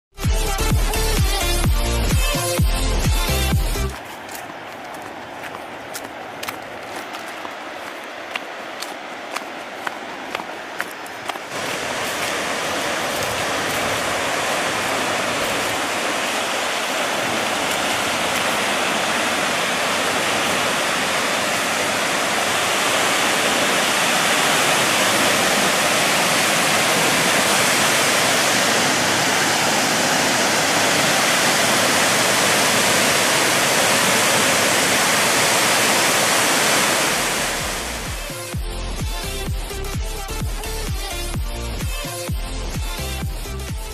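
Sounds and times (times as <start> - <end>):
waterfall rushing: 0.6 - 41.3.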